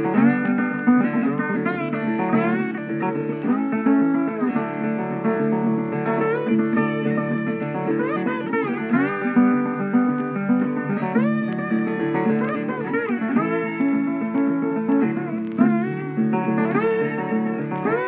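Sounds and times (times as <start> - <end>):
plucked guitar with bending notes: 0.0 - 18.0.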